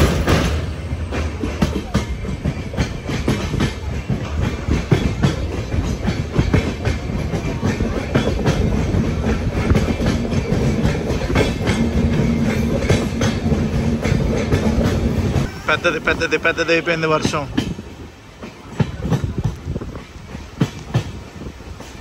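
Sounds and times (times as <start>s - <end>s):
train coach rumbling: 0.0s - 22.0s
wheels clicking over rail joints: 0.0s - 22.0s.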